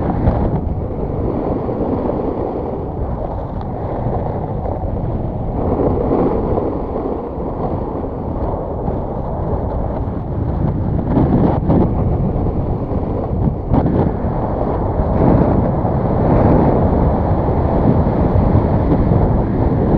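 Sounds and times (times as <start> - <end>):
snowboard scraping over snow: 0.0 - 19.9
wind rushing over microphone: 0.0 - 19.9.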